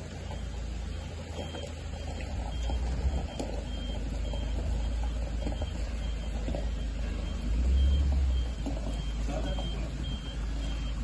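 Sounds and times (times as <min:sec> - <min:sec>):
reversing alarm beeping: 0:01.3 - 0:11.0.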